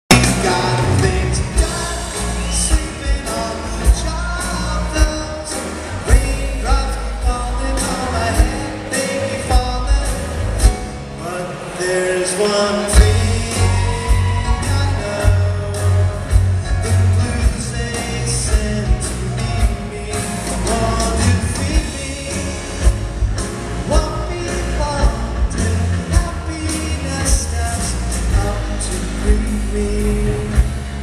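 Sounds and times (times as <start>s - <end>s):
bass guitar: 0.0s - 11.8s, 12.4s - 31.0s
man singing: 0.1s - 23.0s, 23.8s - 31.0s
drum kit: 0.1s - 31.0s
grand piano: 0.1s - 31.0s.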